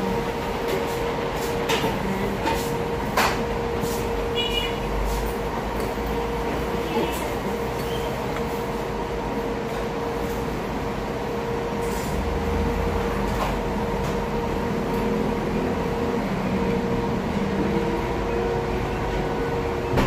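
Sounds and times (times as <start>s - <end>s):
mechanical hum and rumble: 0.0s - 20.0s.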